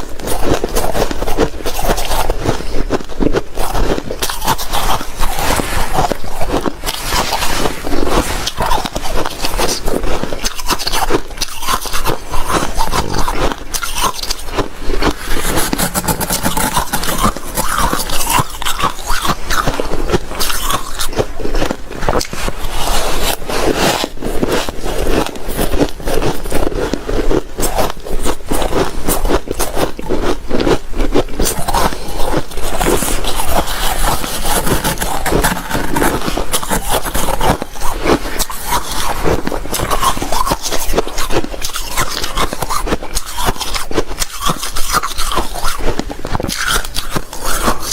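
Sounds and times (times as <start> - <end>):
shaved ice crunching: 3.6 - 29.7, 31.4 - 45.9, 46.5 - 47.9.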